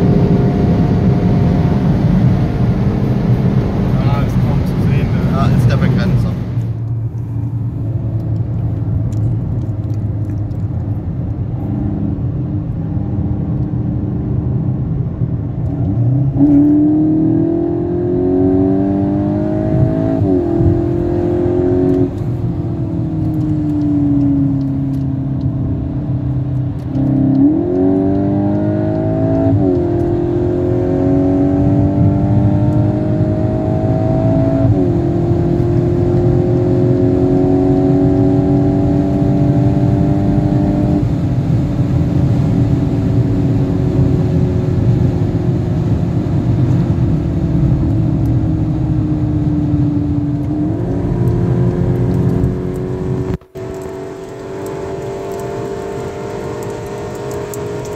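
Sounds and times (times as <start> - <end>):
car engine revving with gear changes: 0.0 - 57.9.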